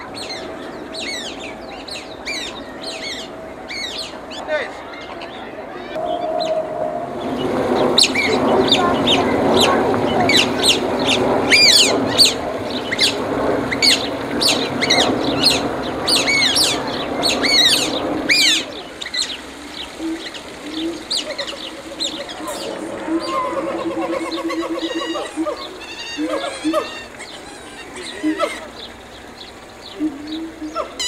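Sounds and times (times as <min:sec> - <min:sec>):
background murmur: 0:00.0 - 0:31.0
birds chirping rapidly: 0:00.0 - 0:31.0.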